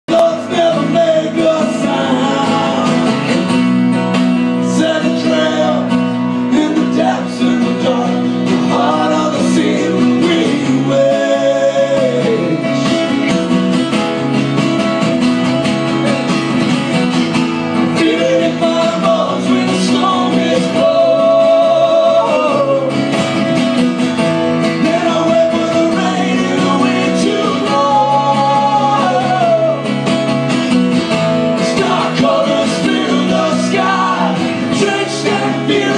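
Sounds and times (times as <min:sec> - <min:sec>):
acoustic guitar playing: 0:00.1 - 0:35.9.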